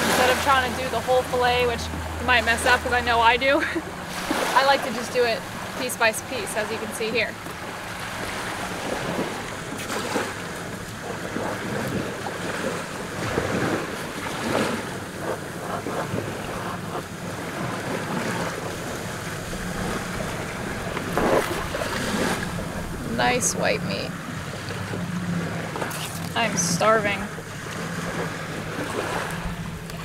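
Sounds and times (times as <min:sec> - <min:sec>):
small waves lapping: 0:00.0 - 0:30.0
wind gusting on microphone: 0:00.0 - 0:30.0.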